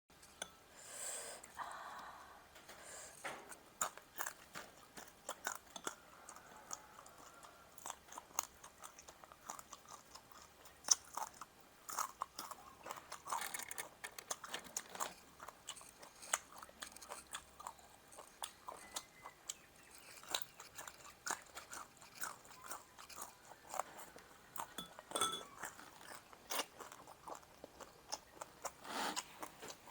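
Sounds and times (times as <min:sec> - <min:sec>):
crunching and chewing: 0:02.6 - 0:29.9.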